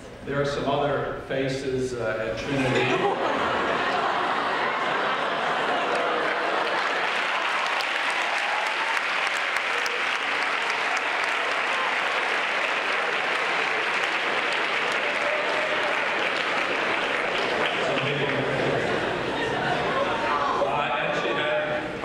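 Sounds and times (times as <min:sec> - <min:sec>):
audience applauding: 0:02.8 - 0:20.8.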